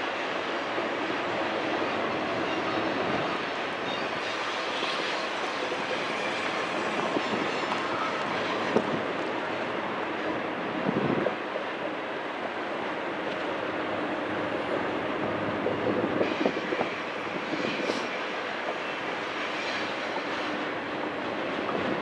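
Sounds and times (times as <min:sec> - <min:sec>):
steel wheels on rail: 0:00.0 - 0:22.0.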